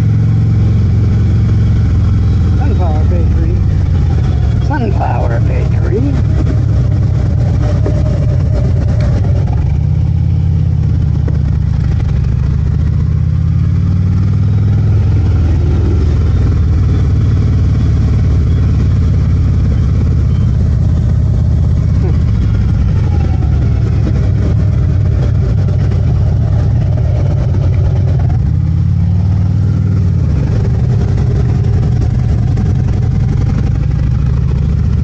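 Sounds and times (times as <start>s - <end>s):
motorcycle engine droning: 0.0s - 35.0s.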